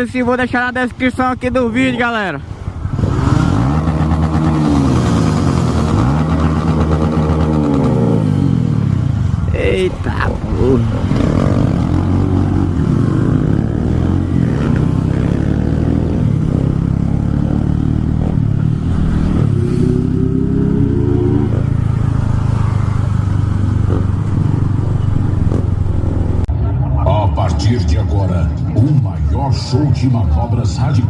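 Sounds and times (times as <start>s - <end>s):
motorcycle engines revving: 1.2s - 26.5s.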